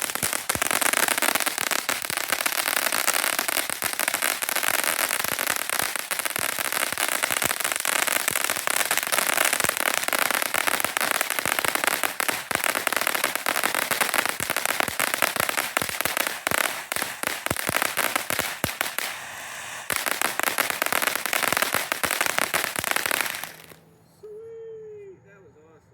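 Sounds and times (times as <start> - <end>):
firework hissing and crackling: 0.0 - 23.8.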